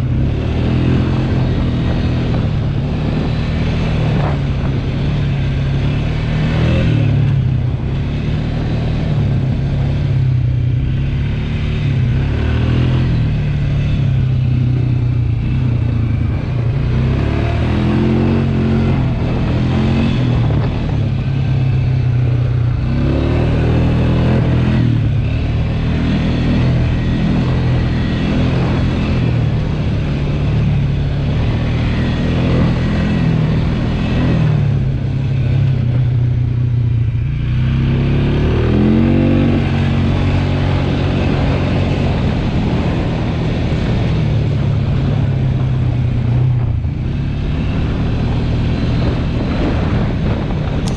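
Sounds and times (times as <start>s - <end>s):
atv engine revving: 0.0s - 50.9s.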